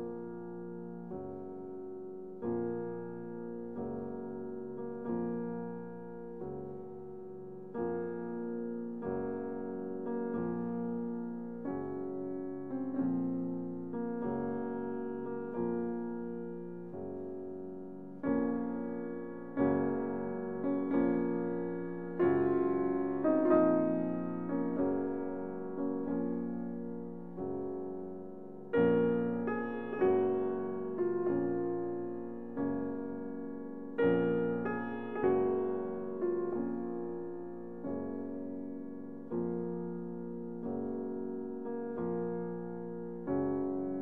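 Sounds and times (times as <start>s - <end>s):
slow piano chords: 0.0s - 44.0s.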